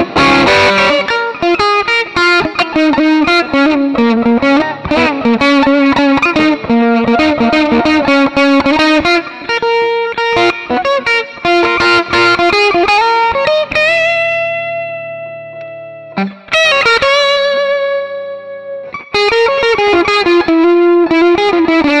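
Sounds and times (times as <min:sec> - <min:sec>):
clean electric guitar playing: 0:00.0 - 0:22.0.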